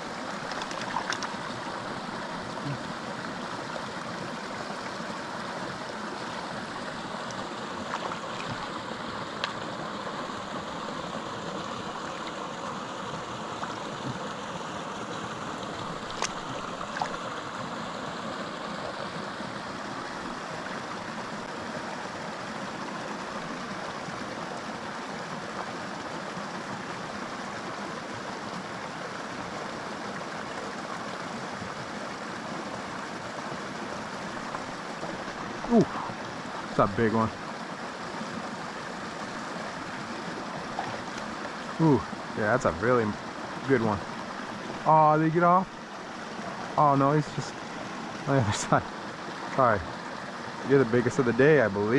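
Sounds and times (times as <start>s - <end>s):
creek flowing over rocks: 0.0s - 51.9s.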